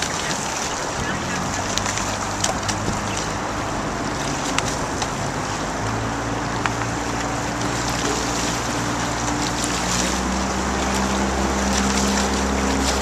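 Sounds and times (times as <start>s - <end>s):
motorboat engine humming: 0.0s - 13.0s
water rushing: 0.0s - 13.0s
wind noise on microphone: 0.0s - 13.0s.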